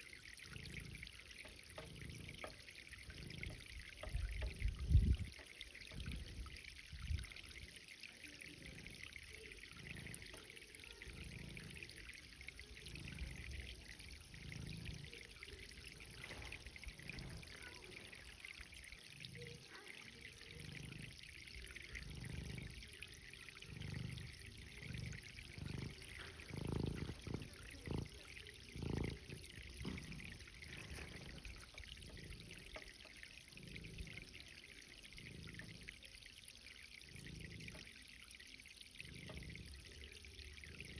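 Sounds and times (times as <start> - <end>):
irrigation water trickling: 0.0 - 40.9.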